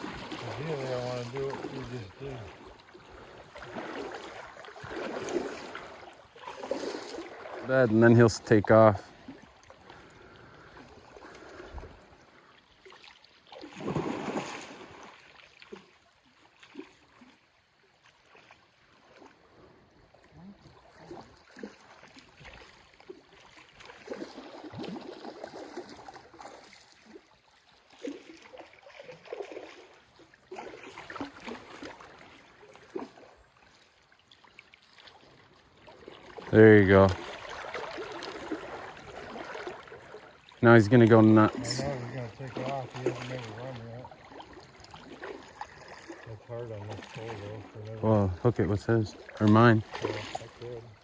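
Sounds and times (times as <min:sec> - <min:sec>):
stream water flowing and splashing: 0:00.0 - 0:51.0.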